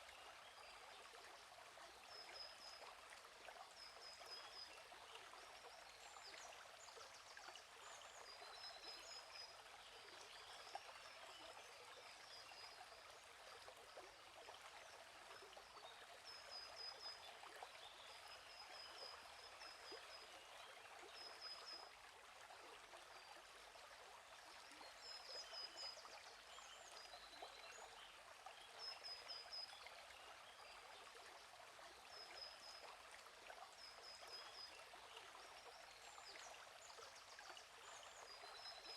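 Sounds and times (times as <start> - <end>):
stream trickling and bubbling: 0.0 - 38.9.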